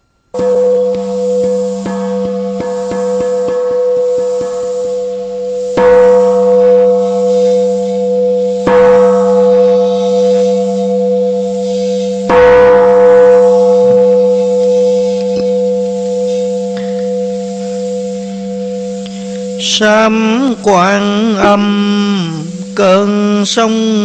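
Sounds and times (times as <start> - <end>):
large temple bell ringing: 0.0 - 24.0
steady hum: 0.0 - 24.0.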